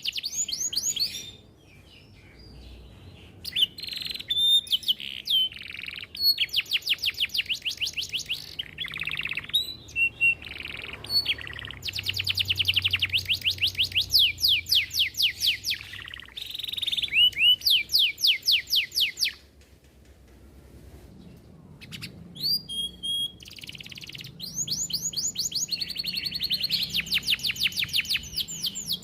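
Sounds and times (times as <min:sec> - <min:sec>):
canary singing trills: 0:00.0 - 0:19.5, 0:21.4 - 0:29.0.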